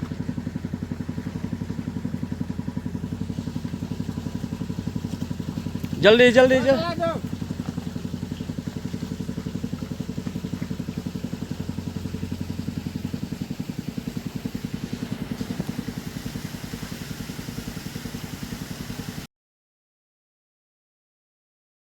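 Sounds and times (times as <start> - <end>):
engine idling with rapid putter: 0.0 - 19.3.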